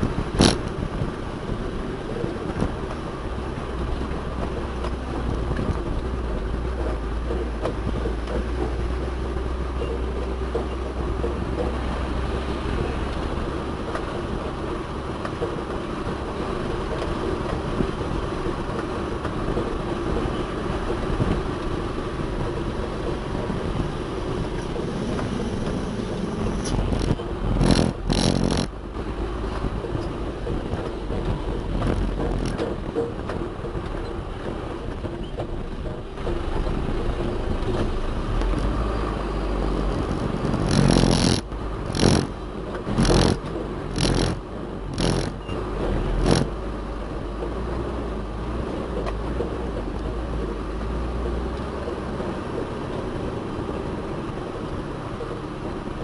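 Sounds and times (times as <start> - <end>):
deep low rumble: 0.0 - 52.3
heavy diesel machinery running: 0.0 - 56.0.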